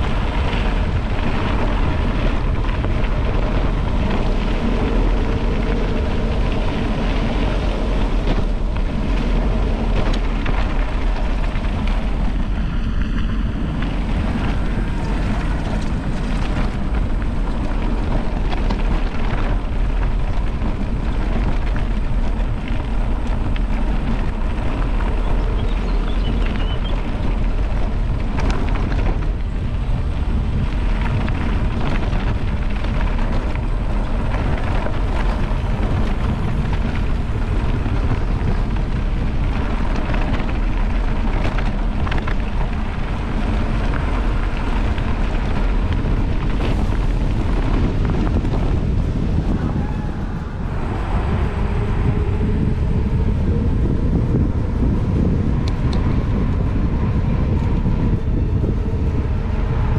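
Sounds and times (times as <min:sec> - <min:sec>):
bike tyres rumbling on dirt: 0:00.0 - 0:59.9
wind on microphone: 0:00.0 - 0:59.9.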